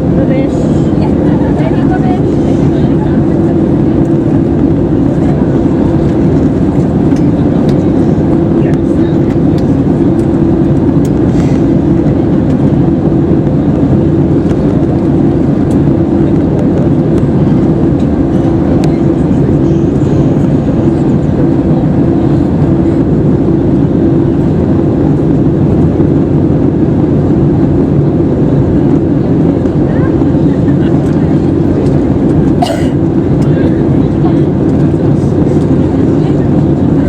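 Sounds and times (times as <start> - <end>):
air rushing along fuselage: 0.0 - 37.0
jet engines droning: 0.0 - 37.0.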